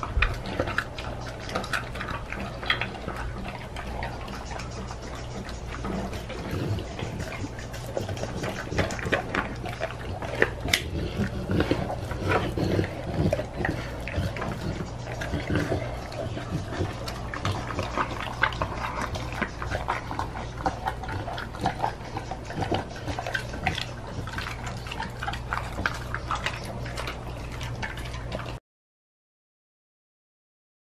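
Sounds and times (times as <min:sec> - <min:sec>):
dog chewing and licking: 0:00.0 - 0:28.6
steady low hum: 0:00.0 - 0:28.6.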